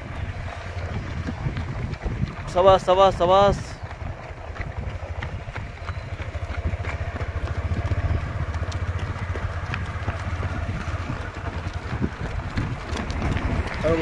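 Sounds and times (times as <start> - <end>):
running footsteps on pavement: 0.0 - 14.0.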